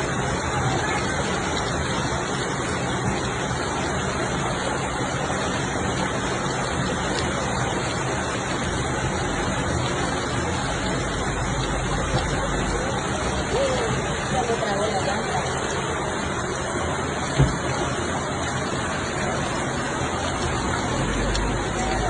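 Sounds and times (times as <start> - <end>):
heavy rain: 0.0 - 22.0
running floodwater: 0.0 - 22.0.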